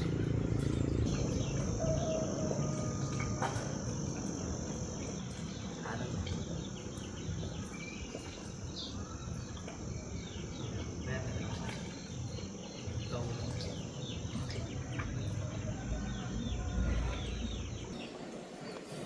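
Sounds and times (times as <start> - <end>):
low rumbling background: 0.0 - 7.6, 9.5 - 18.0
insect high-pitched trill: 0.0 - 18.0.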